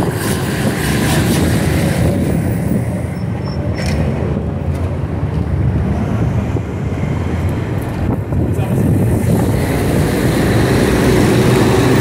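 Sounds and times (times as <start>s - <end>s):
vehicle engines rumbling: 0.0s - 12.0s
wind buffeting microphone: 0.0s - 12.0s.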